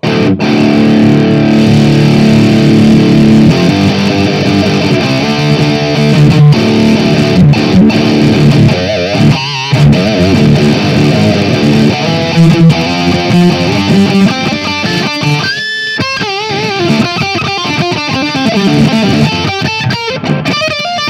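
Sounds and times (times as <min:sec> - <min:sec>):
electric guitar: 0:00.0 - 0:21.0.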